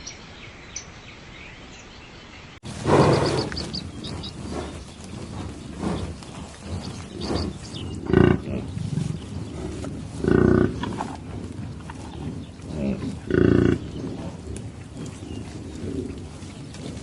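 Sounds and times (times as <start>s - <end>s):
animal calling: 2.7s - 17.0s.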